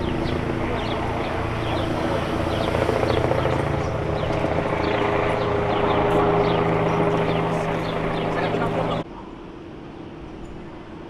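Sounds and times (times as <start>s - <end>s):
helicopter rotor drone: 0.0s - 9.1s.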